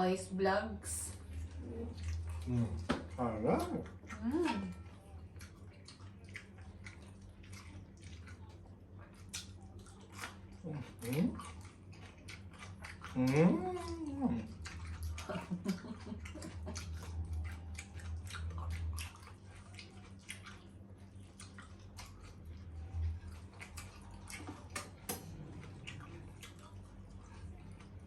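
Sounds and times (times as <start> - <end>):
low hum: 0.0 - 9.3, 10.6 - 28.0
wet chewing and lip-smacking: 1.1 - 28.0.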